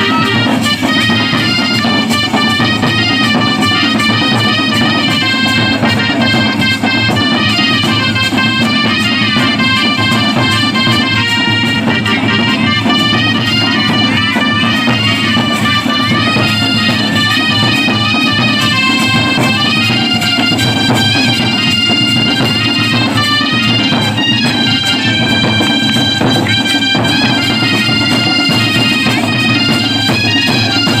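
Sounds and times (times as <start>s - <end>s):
continuous drumming: 0.0s - 31.0s
reedy wind instrument melody: 0.0s - 31.0s.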